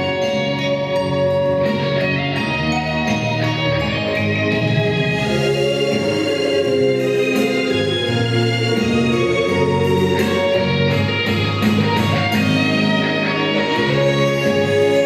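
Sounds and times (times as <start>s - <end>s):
instrumental music with held chords: 0.0s - 15.0s.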